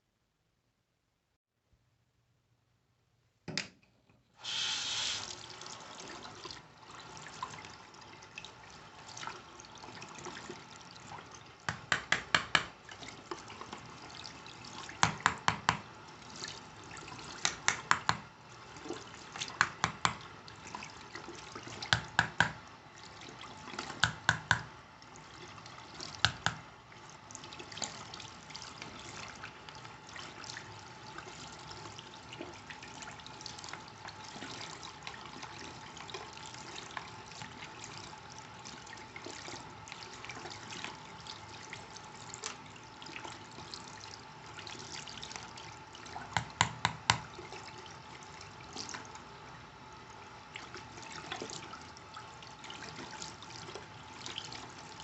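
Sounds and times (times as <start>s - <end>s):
water running from a tap: 4.4s - 49.4s, 50.2s - 55.0s.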